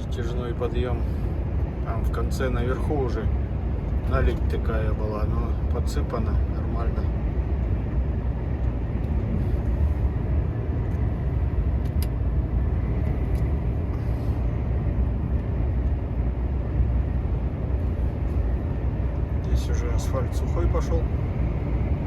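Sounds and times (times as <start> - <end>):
low road rumble: 0.0 - 22.0.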